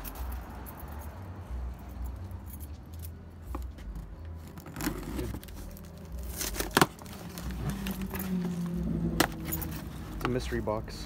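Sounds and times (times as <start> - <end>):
handling clicks and jingling: 0.0 - 11.0.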